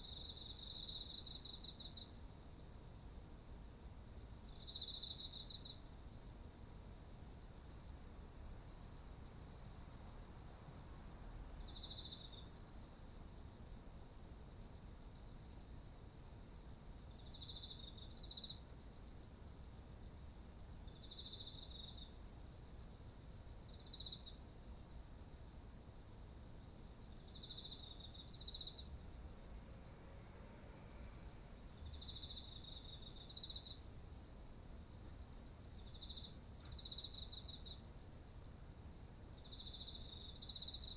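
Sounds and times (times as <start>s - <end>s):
steady high insect trill: 0.0s - 30.1s, 30.8s - 40.9s
lower pulsing insect trill: 0.0s - 40.9s.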